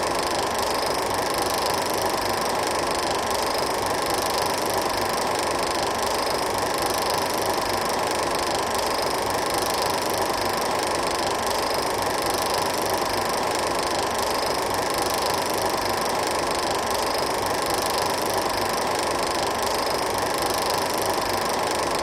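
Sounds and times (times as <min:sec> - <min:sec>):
film projector whirring: 0:00.0 - 0:22.0.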